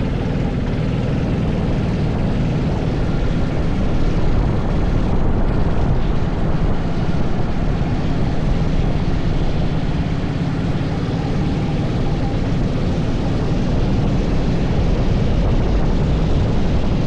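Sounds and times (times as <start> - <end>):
go-kart engine running hard: 0.0 - 17.0
wind rush on microphone: 0.0 - 17.0.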